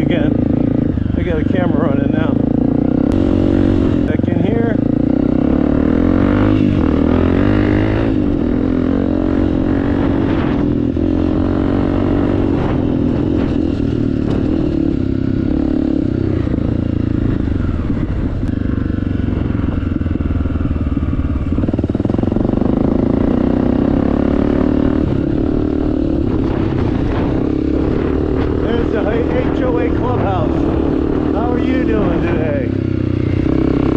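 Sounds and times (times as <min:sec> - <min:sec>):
dirt bike engine running: 0:00.0 - 0:33.9.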